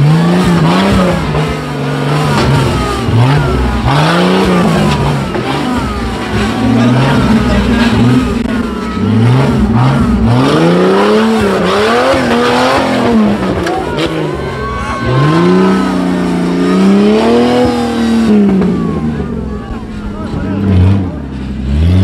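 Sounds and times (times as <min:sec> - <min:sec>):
engine revving: 0:00.0 - 0:22.0.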